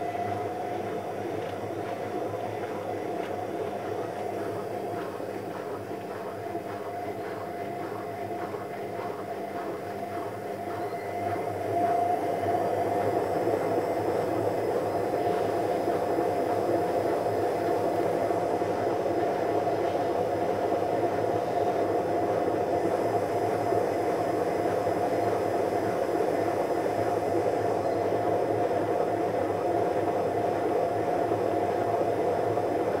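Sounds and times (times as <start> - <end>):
washing machine humming and whining: 0.0 - 33.0.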